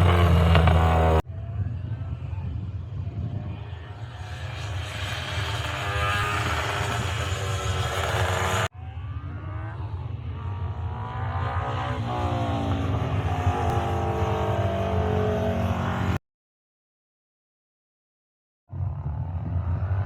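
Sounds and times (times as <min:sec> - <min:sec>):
racing engine at full throttle: 0:00.0 - 0:16.2, 0:18.7 - 0:20.0.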